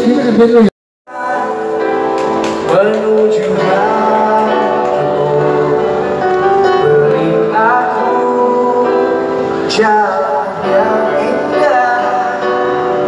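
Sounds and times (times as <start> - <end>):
live pop band music: 0.0 - 13.0
person singing: 0.0 - 13.0.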